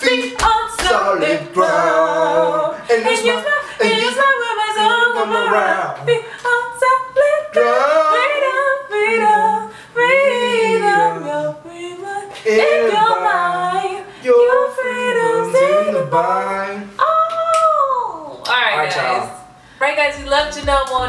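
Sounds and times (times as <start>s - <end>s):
woman singing a cappella: 0.0s - 16.2s, 16.9s - 19.5s, 20.1s - 21.0s.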